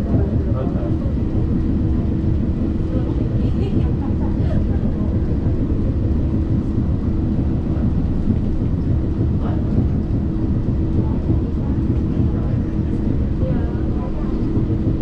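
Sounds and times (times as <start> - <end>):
people mover low rumble and hum: 0.0 - 15.0.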